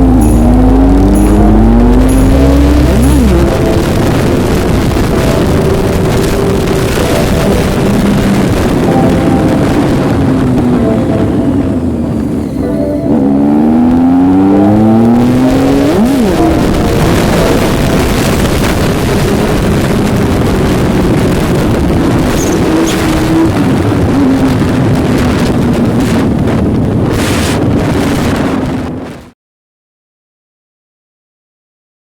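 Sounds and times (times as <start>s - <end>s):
motorcycle engines accelerating: 0.0s - 28.8s.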